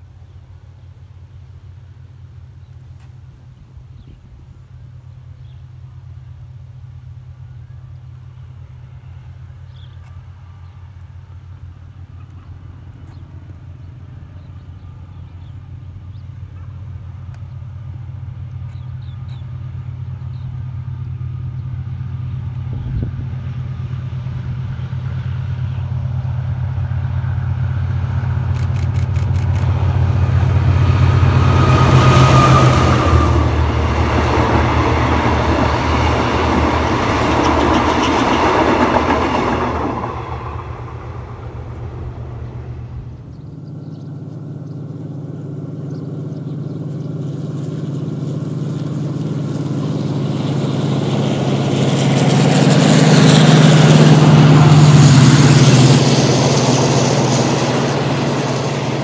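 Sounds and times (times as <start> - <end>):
diesel locomotive engine drone: 0.0 - 59.0
train coaches rolling by: 0.0 - 59.0.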